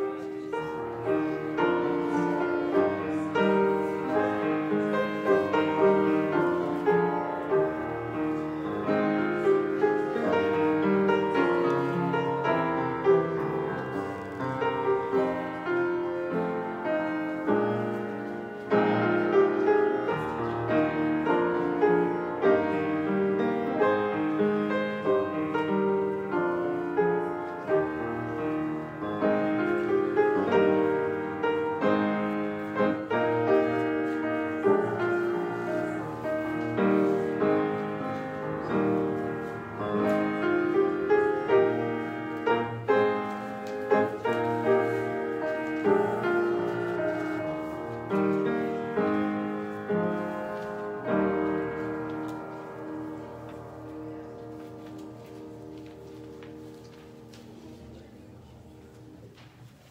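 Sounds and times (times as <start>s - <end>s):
upright piano playing: 0.0s - 59.3s.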